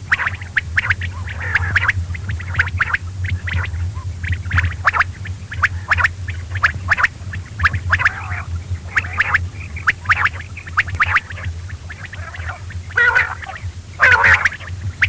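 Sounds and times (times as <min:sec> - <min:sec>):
low electrical hum: 0:00.0 - 0:15.0
quail chirping: 0:00.0 - 0:15.0.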